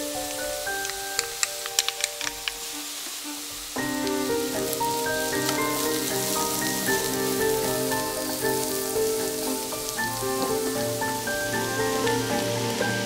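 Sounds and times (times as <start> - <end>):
melodic background music: 0.0 - 3.0, 3.7 - 13.0
vegetables sizzling in oil: 0.0 - 13.0.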